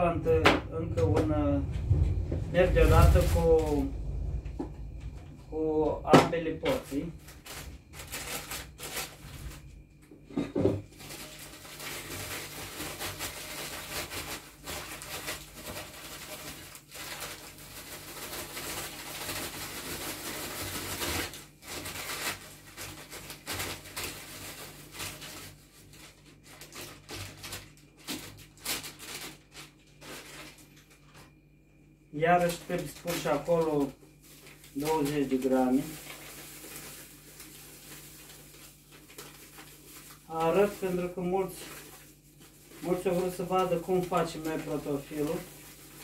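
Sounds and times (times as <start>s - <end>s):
paper packet crinkling: 1.2s - 4.3s, 6.4s - 9.8s, 10.8s - 31.3s, 32.2s - 46.0s
dried herbs pouring and rustling: 1.2s - 9.8s, 10.9s - 30.7s, 32.4s - 46.0s.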